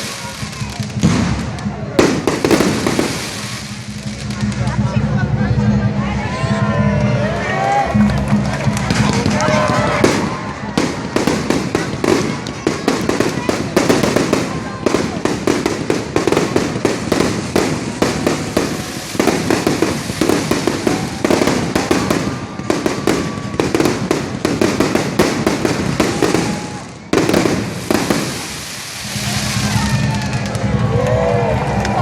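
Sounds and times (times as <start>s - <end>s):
fireworks bangs and crackles: 0.0s - 6.6s, 7.7s - 32.0s.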